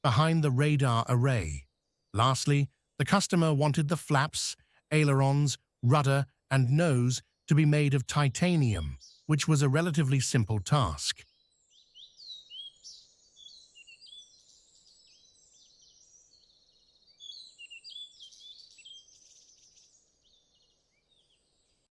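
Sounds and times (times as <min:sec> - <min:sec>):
birds chirping: 0:00.0 - 0:21.4.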